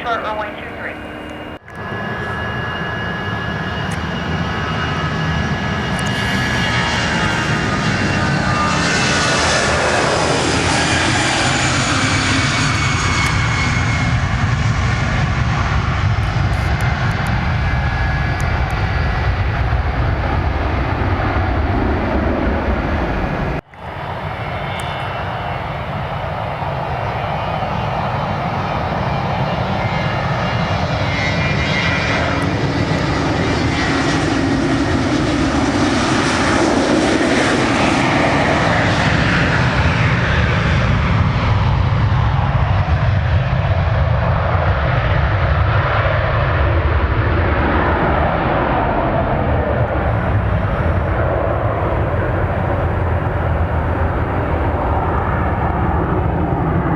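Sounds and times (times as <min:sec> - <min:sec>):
jet engines rumbling: 0:00.0 - 0:56.9.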